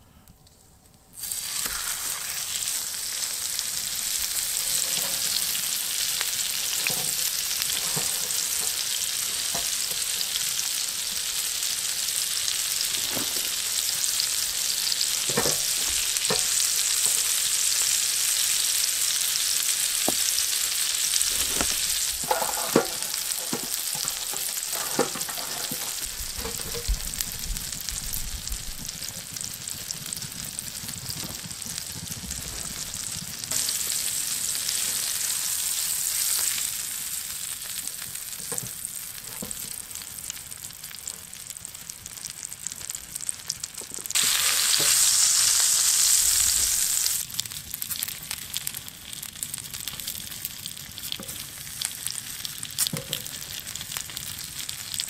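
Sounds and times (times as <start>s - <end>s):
steak sizzling in frying pan: 1.2s - 55.0s.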